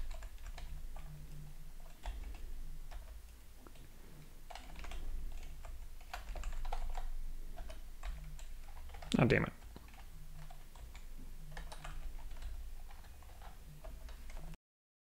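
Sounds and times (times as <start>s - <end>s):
typing on keyboard: 0.0s - 3.9s, 4.5s - 14.6s.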